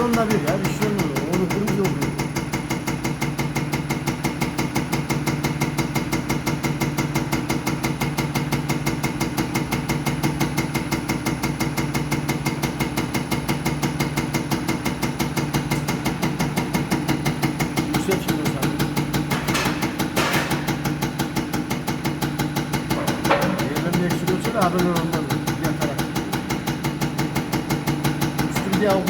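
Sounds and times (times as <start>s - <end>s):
pump humming and pulsing: 0.0s - 29.0s.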